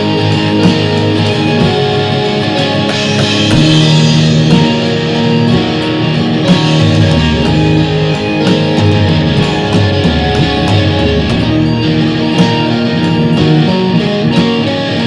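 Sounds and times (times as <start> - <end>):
synth: 0.0 - 14.7
drums: 0.0 - 15.0
electric guitar sustained notes: 0.0 - 15.0.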